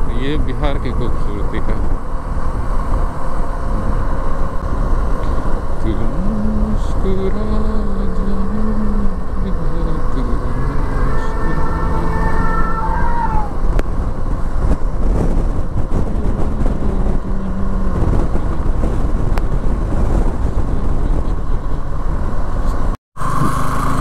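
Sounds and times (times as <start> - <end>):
vehicle driving at road speed: 0.0 - 24.0.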